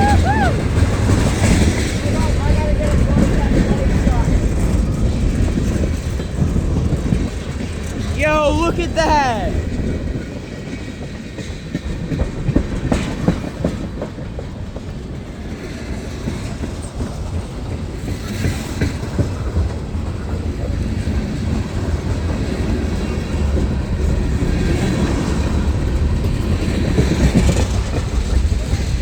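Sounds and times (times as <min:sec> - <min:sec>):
freight train rumble: 0:00.0 - 0:08.2, 0:09.5 - 0:29.0.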